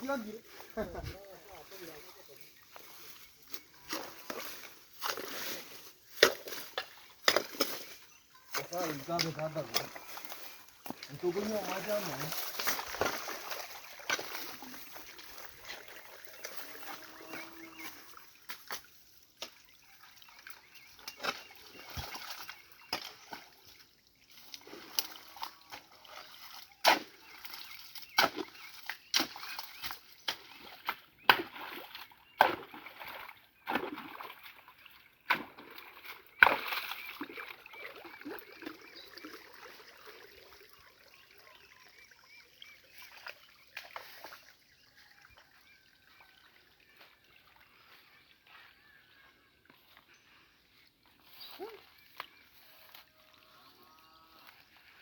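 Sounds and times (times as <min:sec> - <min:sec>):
water splashing in stream: 0:01.1 - 0:48.0.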